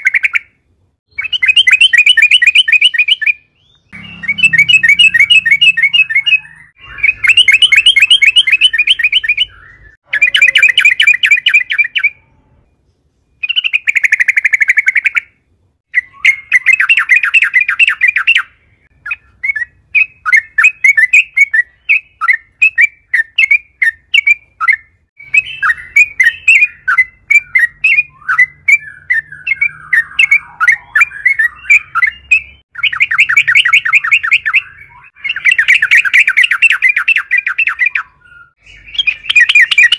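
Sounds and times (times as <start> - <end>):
bulbul singing: 0.0 - 12.7, 13.4 - 39.9.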